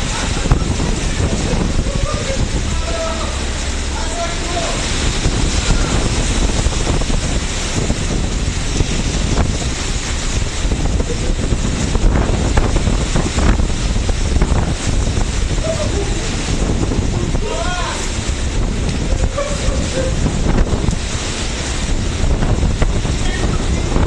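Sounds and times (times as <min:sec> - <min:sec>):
water rushing across deck: 0:00.0 - 0:24.0
wind buffeting microphone: 0:00.0 - 0:24.0.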